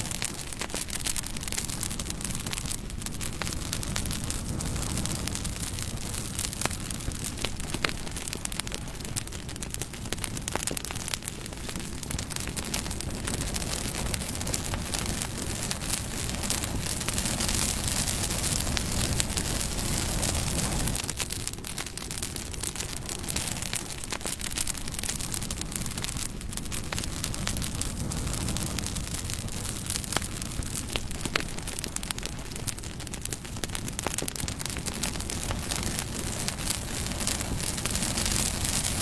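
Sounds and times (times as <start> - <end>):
steady hiss and low rumble: 0.0 - 39.0
wood fire crackling and popping: 0.0 - 39.0.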